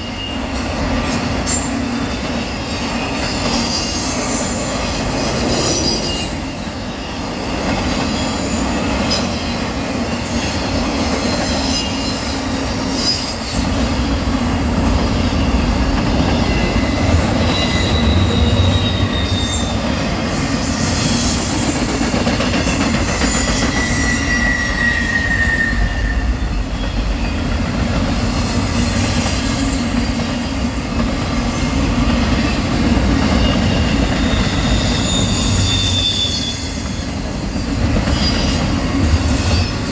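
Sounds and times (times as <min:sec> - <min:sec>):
high wheel squeals: 0:00.0 - 0:14.1, 0:15.0 - 0:39.9
train wheels rumbling on rail: 0:00.0 - 0:39.9.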